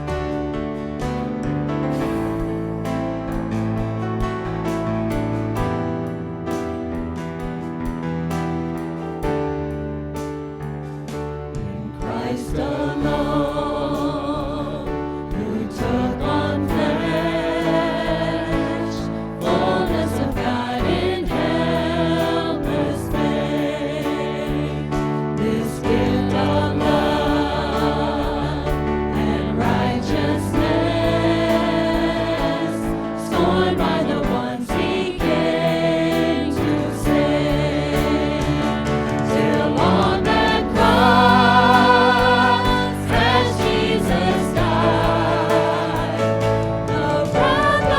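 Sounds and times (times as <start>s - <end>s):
voices singing worship song: 0.0s - 8.0s, 10.8s - 47.9s
sustained instrumental accompaniment: 0.0s - 47.9s.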